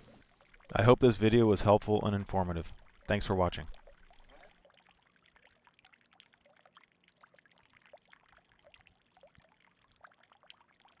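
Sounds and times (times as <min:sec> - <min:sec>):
faint water trickling: 0:00.0 - 0:11.0.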